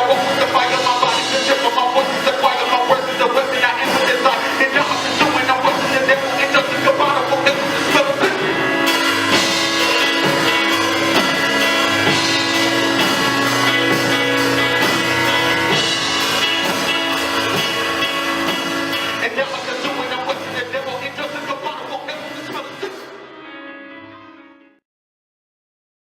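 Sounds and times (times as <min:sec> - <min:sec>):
instrumental music with drums: 0:00.0 - 0:22.8.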